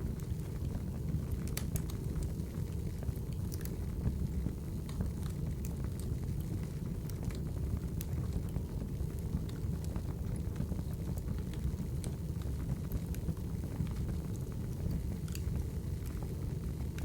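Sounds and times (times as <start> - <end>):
fire pops and crackles: 0.0 - 17.0.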